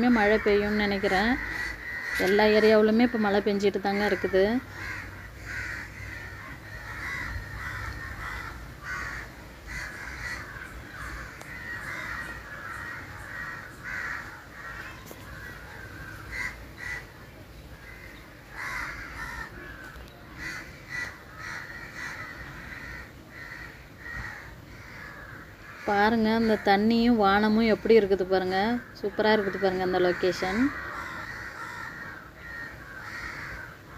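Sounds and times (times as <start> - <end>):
crows cawing: 0.0 - 33.9.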